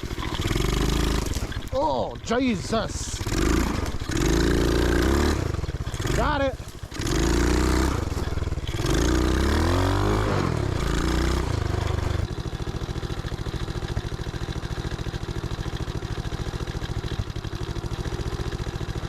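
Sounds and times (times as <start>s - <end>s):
engine revving and idling: 0.0s - 19.0s.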